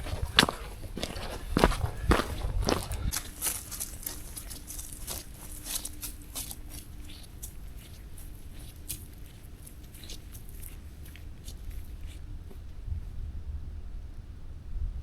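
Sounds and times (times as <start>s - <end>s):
footsteps on a trail: 0.0s - 12.8s.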